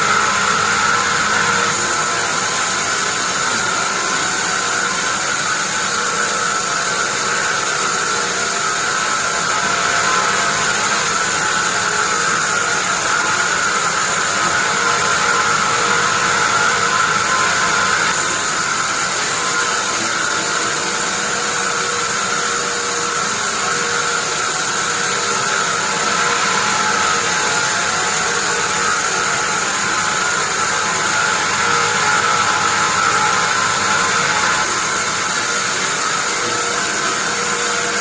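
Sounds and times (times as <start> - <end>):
band saw whining: 0.0 - 38.0.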